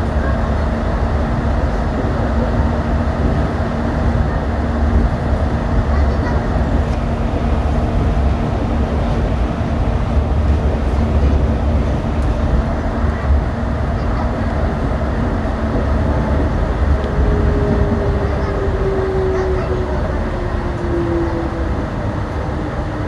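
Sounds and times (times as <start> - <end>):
train tyres rumbling: 0.0 - 23.0.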